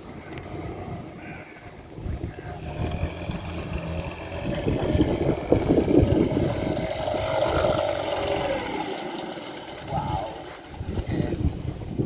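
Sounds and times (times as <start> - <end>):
outboard motor running: 0.0 - 12.0
rough low noise: 0.0 - 12.0.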